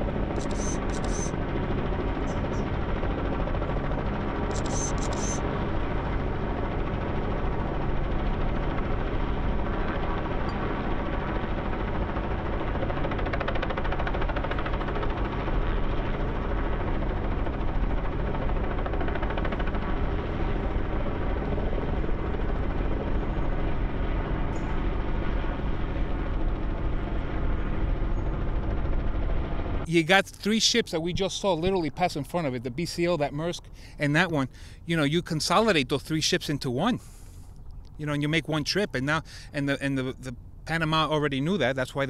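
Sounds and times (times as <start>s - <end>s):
helicopter rotor and engine drone: 0.0s - 42.0s.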